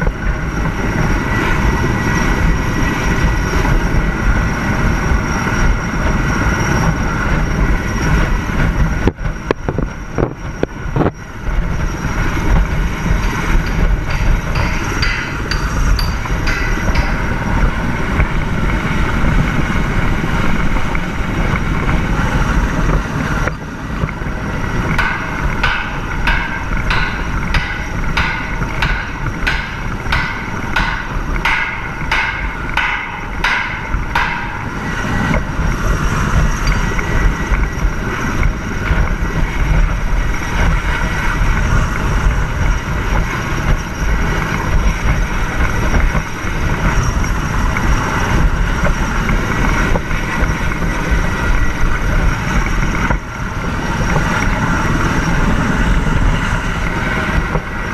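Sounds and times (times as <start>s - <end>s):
helicopter rotor wash rumble: 0.0s - 57.9s
wind buffeting microphone: 0.0s - 57.9s.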